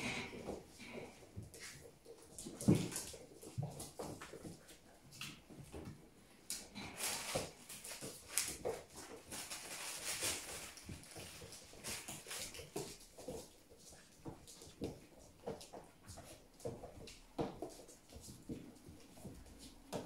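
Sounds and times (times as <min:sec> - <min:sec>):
rustling and scrabbling on fabric: 0:00.0 - 0:20.0.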